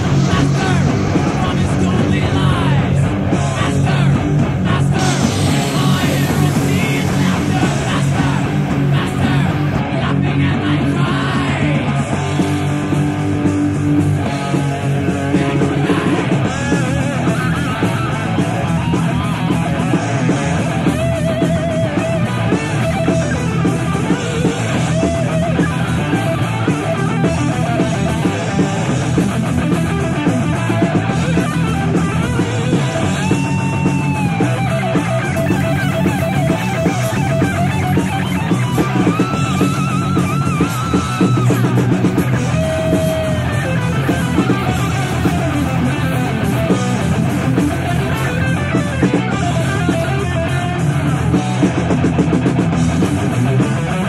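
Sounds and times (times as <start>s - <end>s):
rock music with electric guitar: 0.0s - 54.0s.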